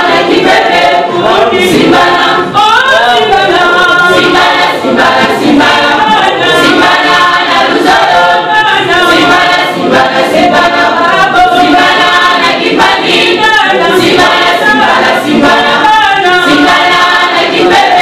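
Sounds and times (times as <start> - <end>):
women's choir singing gospel: 0.0 - 18.0.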